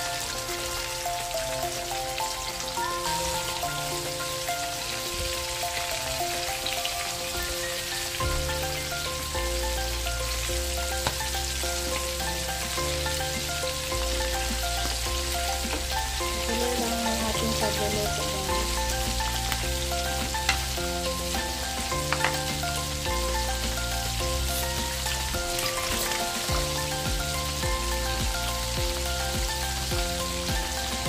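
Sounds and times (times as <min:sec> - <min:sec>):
background music with bass line: 0:00.0 - 0:31.0
squid deep-frying in oil: 0:00.0 - 0:31.0.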